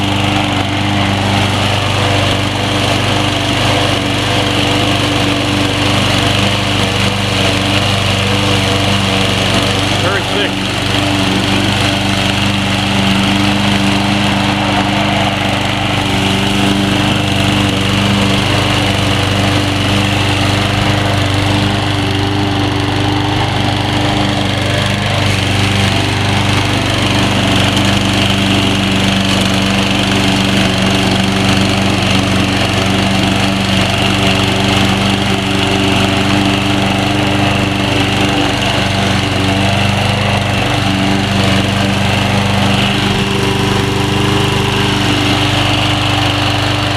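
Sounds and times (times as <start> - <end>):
lawn mower cutting grass: 0.0 - 46.9.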